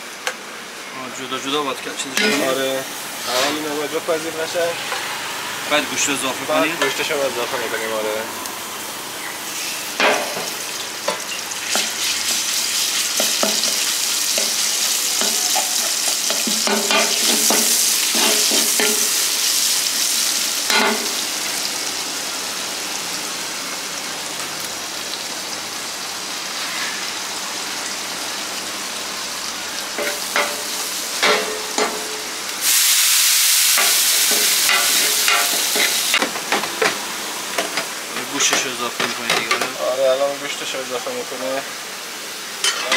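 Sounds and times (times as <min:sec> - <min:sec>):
meat sizzling in a pan: 0:02.0 - 0:42.9.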